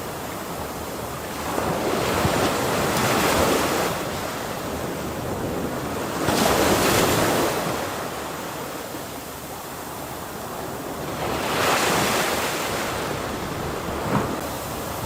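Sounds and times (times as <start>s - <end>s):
ocean waves crashing: 1.2s - 15.0s.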